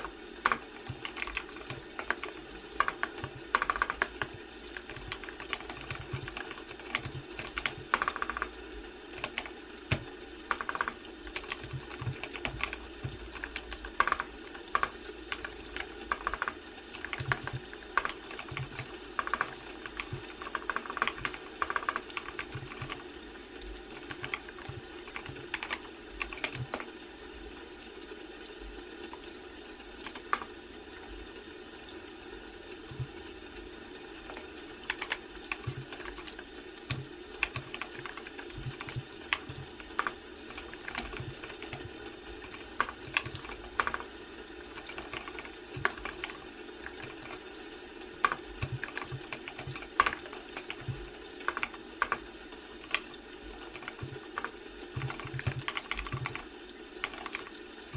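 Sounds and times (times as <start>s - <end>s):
keyboard typing: 0.0s - 27.0s, 29.0s - 30.6s, 32.6s - 57.9s.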